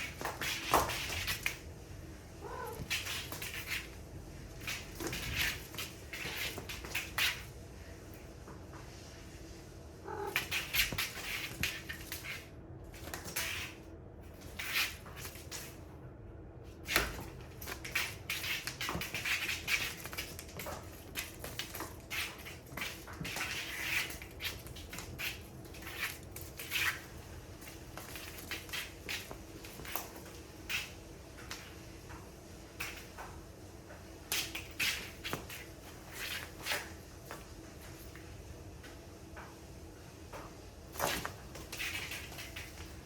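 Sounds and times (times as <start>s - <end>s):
cats playing rustling and scratching: 0.0s - 43.0s.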